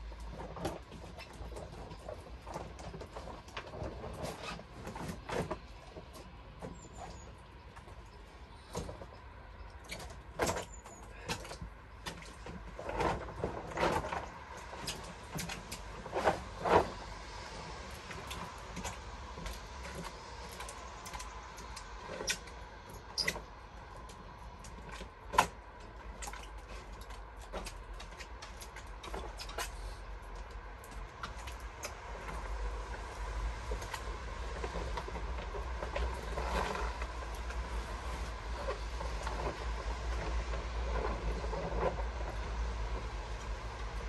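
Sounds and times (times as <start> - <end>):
rustling: 0.0 - 44.0.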